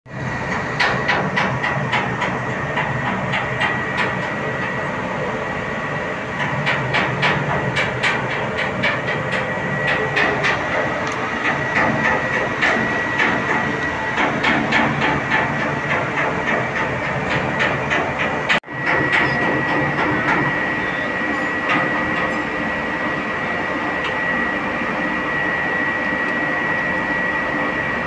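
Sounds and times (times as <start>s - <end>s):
mechanical running noise with whine: 0.1s - 28.0s.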